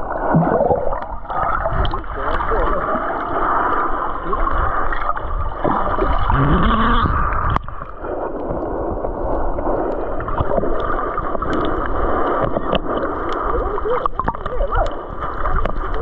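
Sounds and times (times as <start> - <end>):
muffled underwater water rushing: 0.0 - 16.0.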